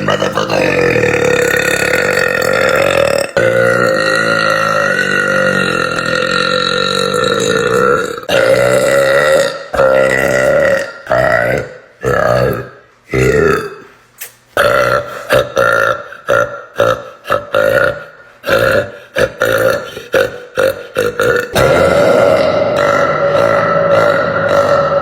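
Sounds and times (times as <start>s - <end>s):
woman burping: 0.0s - 11.3s, 14.6s - 25.0s.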